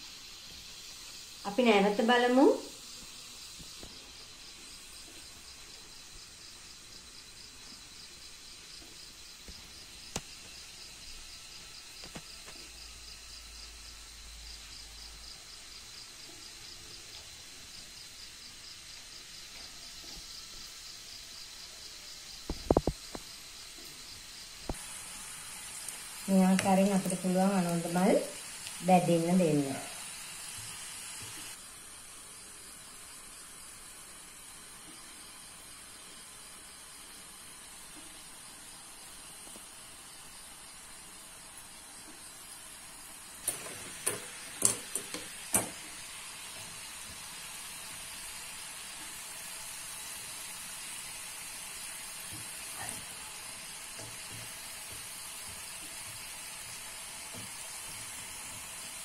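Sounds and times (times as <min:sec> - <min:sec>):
hot oil sizzling: 0:00.0 - 0:59.0.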